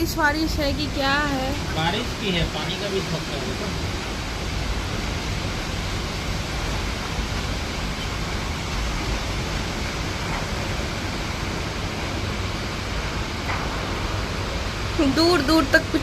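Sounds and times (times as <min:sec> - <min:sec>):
rain: 0:00.0 - 0:16.0.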